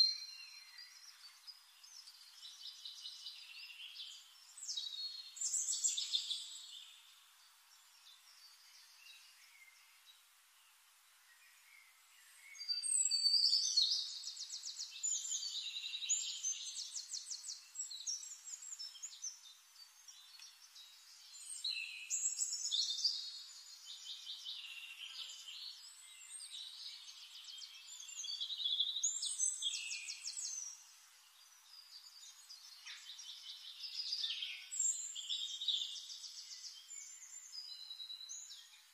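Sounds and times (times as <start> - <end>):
songbirds singing with trills: 0.0 - 38.9.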